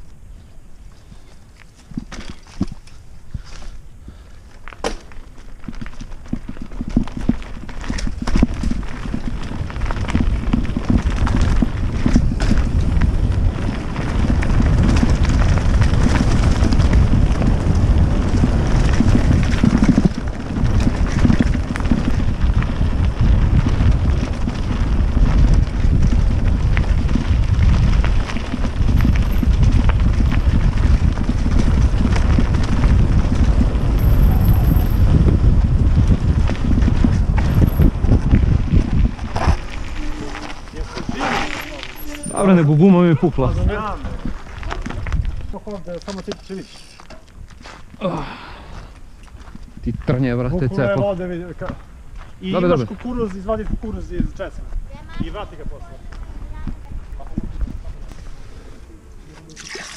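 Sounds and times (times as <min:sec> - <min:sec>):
bike rattling over rough ground: 0:00.0 - 0:59.9
bike tyres rumbling on gravel: 0:00.0 - 0:59.9
wind buffeting microphone: 0:05.5 - 0:59.9.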